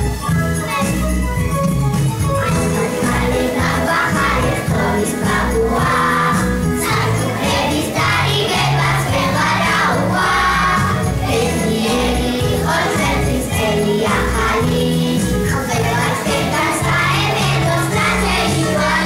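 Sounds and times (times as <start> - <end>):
backing track with steady beat: 0.0 - 19.0
children singing together: 2.5 - 19.0.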